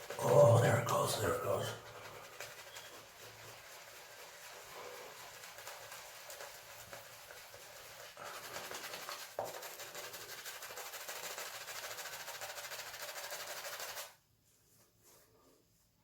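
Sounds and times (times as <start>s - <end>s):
shaving brush swishing lather: 0.0s - 15.3s.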